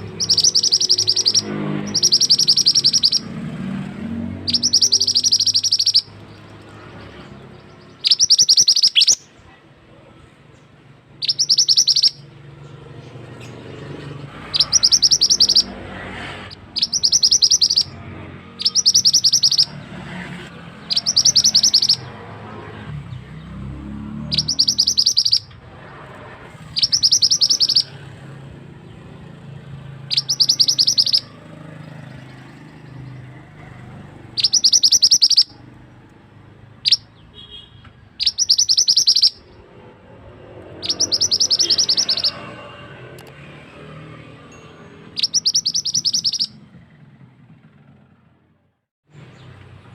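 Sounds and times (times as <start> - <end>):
songbird singing: 0.0 - 47.0, 49.1 - 49.9.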